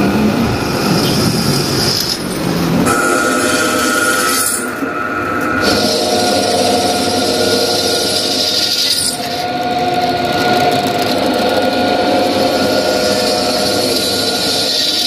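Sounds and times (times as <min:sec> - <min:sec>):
drill press cutting steel: 0:02.9 - 0:15.0.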